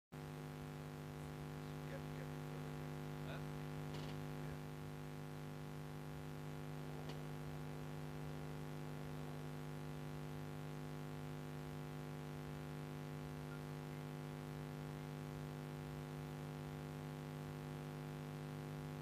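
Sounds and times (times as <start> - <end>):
steady electrical hum: 0.2 - 19.0.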